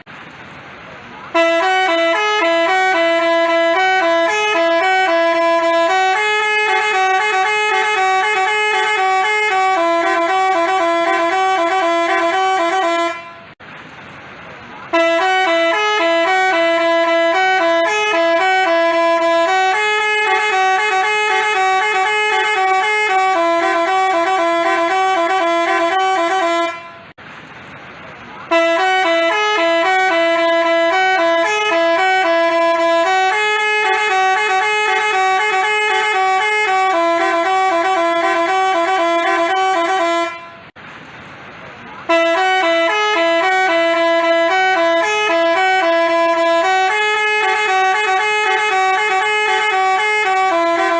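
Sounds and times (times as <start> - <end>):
bus horn playing a melody: 1.3 - 13.6, 14.9 - 27.2, 28.5 - 40.8, 42.0 - 50.9.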